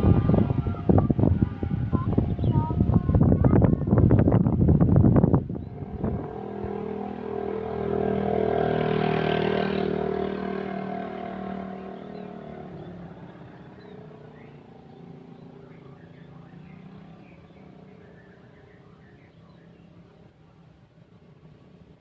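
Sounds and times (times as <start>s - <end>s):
passing vehicle engine hum: 0.0s - 22.0s.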